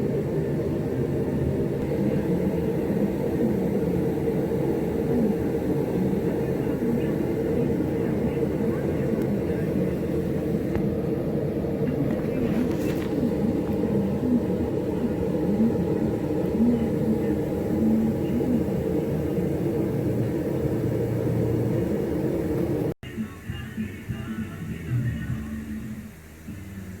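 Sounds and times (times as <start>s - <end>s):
workshop equipment rumbling roar: 0.0s - 27.0s.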